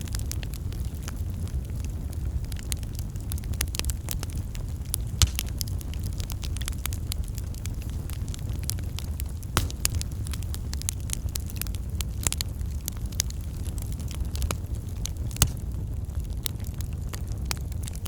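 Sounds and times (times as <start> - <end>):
low steady rumble: 0.0 - 16.5
wood fire crackling and popping: 0.0 - 18.0.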